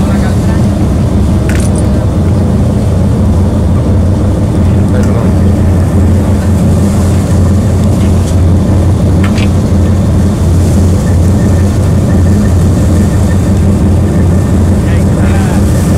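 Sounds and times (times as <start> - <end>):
diesel engines idling: 0.0 - 15.9.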